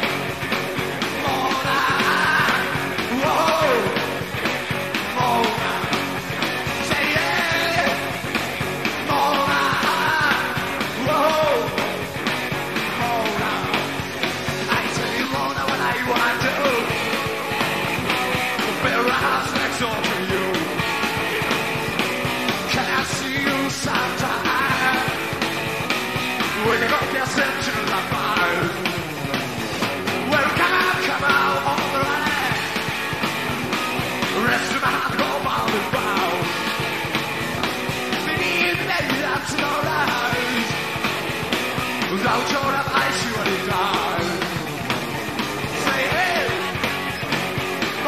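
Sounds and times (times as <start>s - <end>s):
electric guitar: 0.0s - 48.0s
rock band playing live: 0.0s - 48.0s
steady drum beat: 0.0s - 48.0s.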